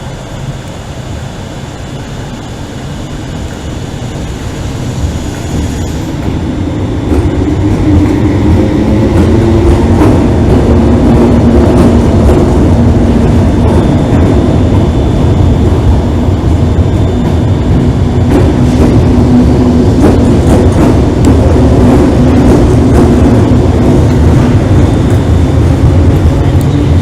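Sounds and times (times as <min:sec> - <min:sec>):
electric train rumble: 0:00.0 - 0:27.0.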